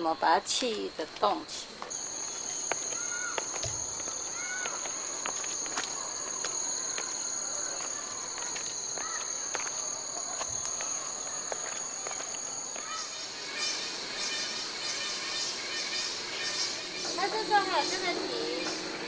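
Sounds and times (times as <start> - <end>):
insects buzzing: 0.0 - 19.0
short chirping calls: 1.9 - 19.0.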